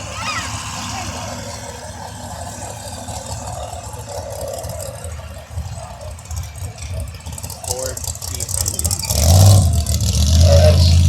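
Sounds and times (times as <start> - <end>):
engine idling low rumble: 0.0 - 11.0.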